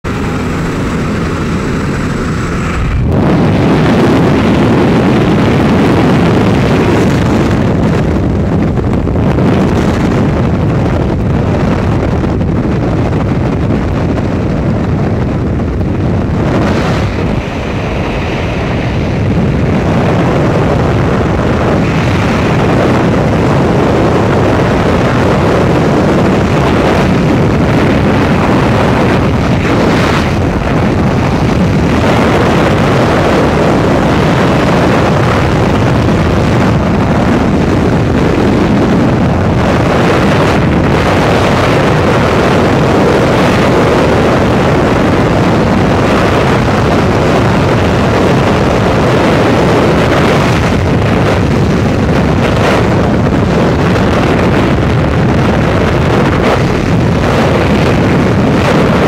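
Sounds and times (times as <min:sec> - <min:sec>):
heavy wind buffeting camera: 0:00.0 - 0:59.0
rush of freefall air: 0:00.0 - 0:59.0.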